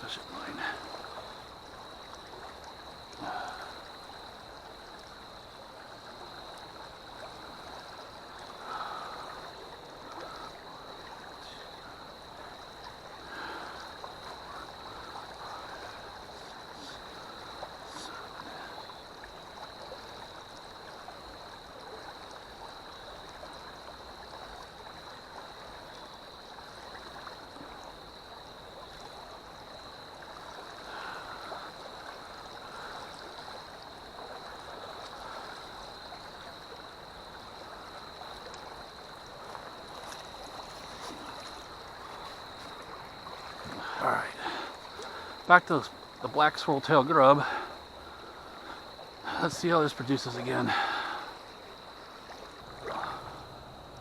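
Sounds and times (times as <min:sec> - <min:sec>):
river water flowing: 0:00.0 - 0:54.0
water swishes: 0:00.0 - 0:54.0.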